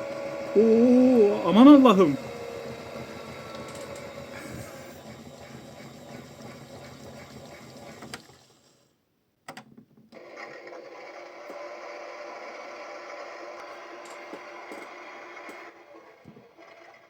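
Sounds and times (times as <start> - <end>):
toy washing machine running: 0.0 - 8.9, 10.2 - 17.0.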